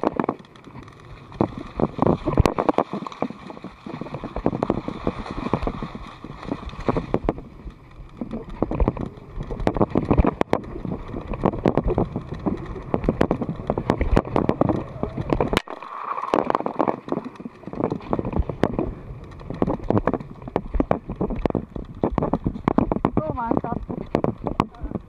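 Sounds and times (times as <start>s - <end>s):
bike rattling and knocking: 0.0s - 25.0s
rumbling ground noise: 0.0s - 25.0s.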